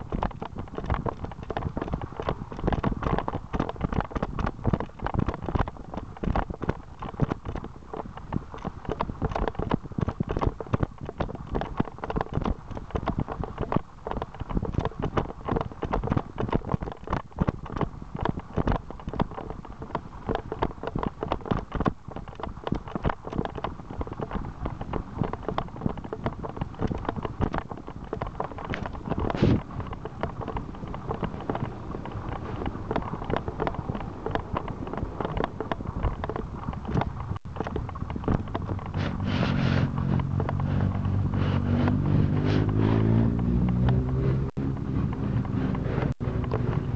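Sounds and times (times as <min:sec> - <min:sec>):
camera knocking and rubbing: 0:00.0 - 0:46.9
running footsteps on dirt: 0:00.0 - 0:46.9.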